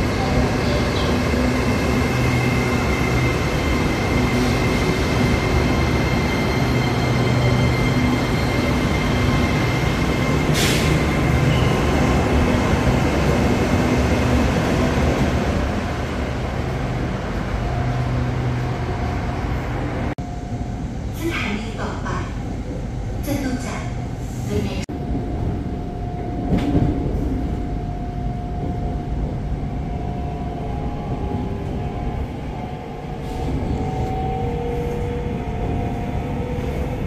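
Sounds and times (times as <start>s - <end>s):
electric train humming: 0.0s - 24.2s, 24.9s - 37.0s.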